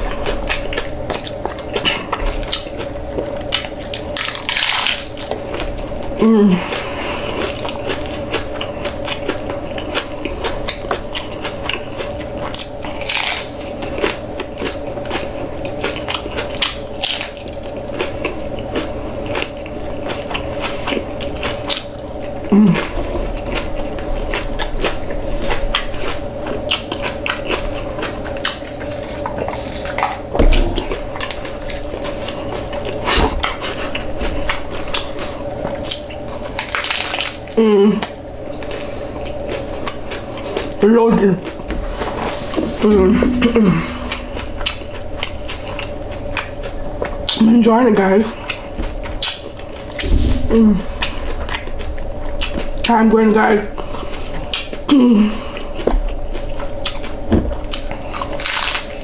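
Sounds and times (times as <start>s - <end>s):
crunchy chewing: 0.0s - 47.5s, 48.3s - 52.9s, 53.7s - 59.0s
steady hum: 0.0s - 59.0s.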